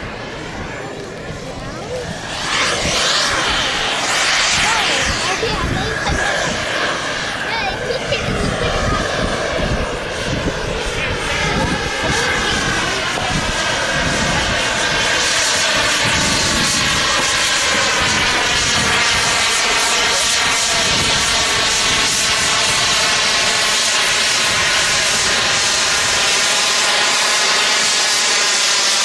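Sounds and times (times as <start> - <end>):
model airplane engine buzzing: 0.0 - 29.0.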